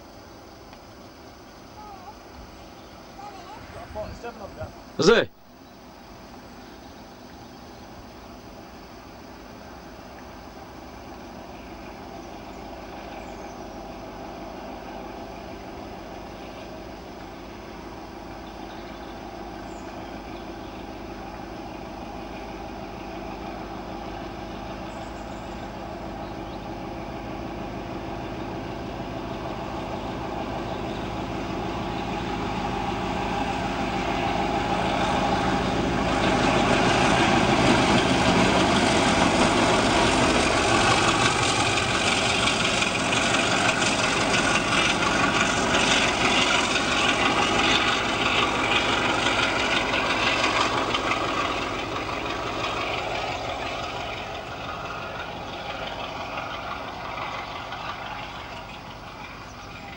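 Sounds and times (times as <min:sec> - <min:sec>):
diesel locomotive engines under power: 0:00.0 - 0:59.9.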